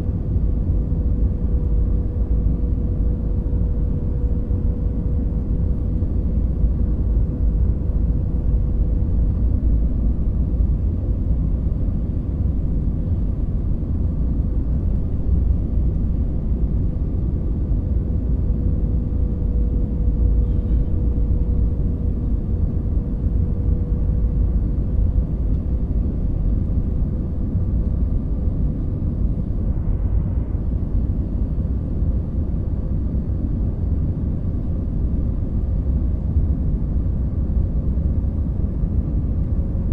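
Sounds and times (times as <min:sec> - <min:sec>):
faint constant hum: 0:00.0 - 0:39.9
jet engine and airflow rumble: 0:00.0 - 0:39.9.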